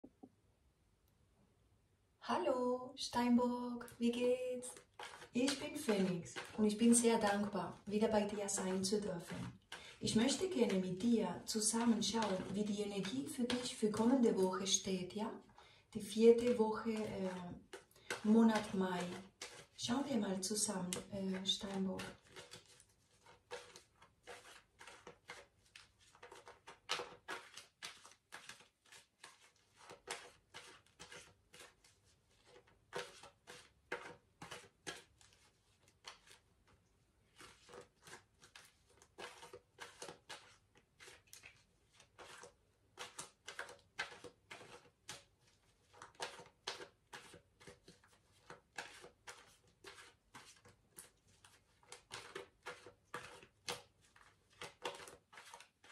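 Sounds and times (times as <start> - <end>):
cards being shuffled: 4.1 - 14.2, 16.3 - 55.9.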